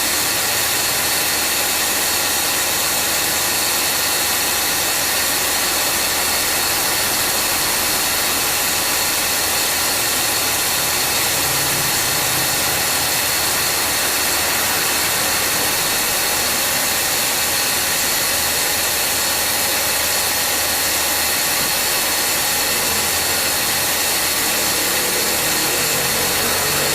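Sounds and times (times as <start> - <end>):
air conditioning compressor running: 0.0 - 26.9
car engine running: 2.8 - 26.9.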